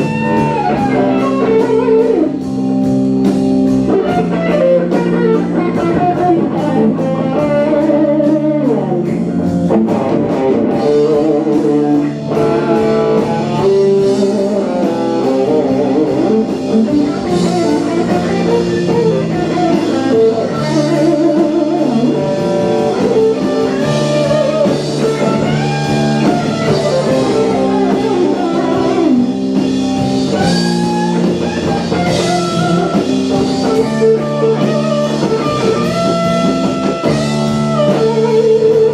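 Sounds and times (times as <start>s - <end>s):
lead electric guitar: 0.0s - 38.9s
live band playing instrumental: 0.0s - 38.9s.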